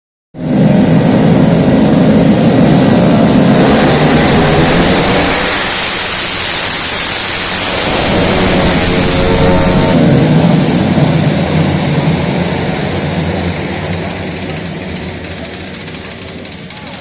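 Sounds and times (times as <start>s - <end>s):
scooter engine running: 0.4s - 17.0s
harsh hiss: 0.5s - 17.0s.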